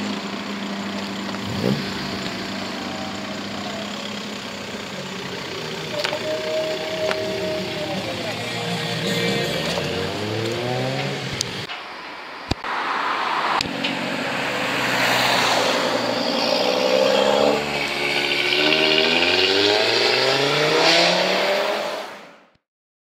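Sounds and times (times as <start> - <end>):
car engines revving and accelerating: 0.0 - 11.7, 12.5 - 22.5.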